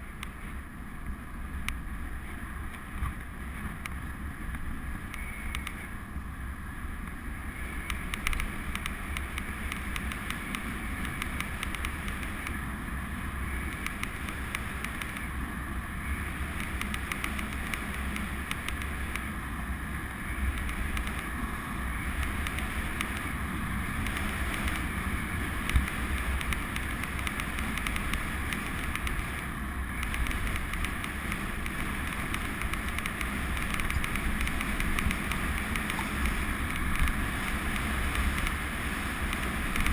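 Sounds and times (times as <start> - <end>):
bicycle tyres on tarmac: 0.0 - 39.9
wind rushing on microphone: 0.0 - 39.9.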